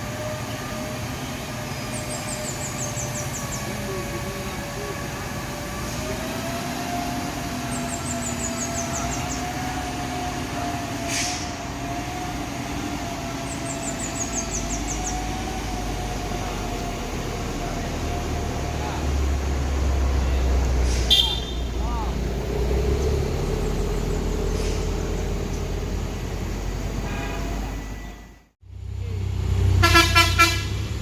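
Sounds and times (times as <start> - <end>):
truck engine under load: 0.0 - 31.0.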